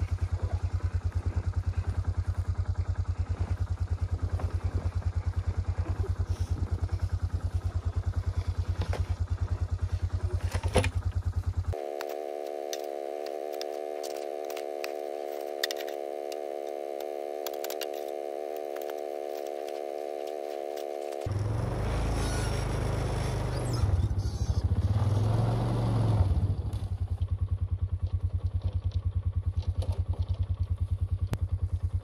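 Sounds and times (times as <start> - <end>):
held humming tones: 0.0 - 32.0
quad bike engine running: 0.0 - 32.0.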